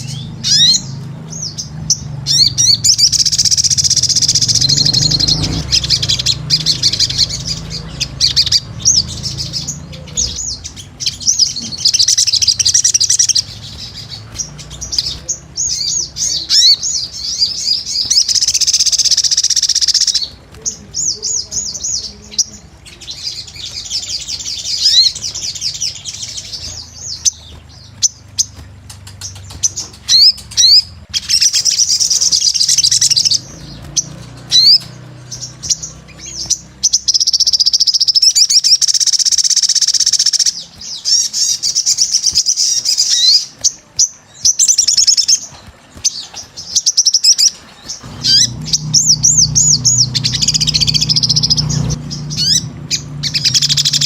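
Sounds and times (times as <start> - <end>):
bird twittering trills: 0.0 - 54.0
thin bird chirps: 0.0 - 54.0.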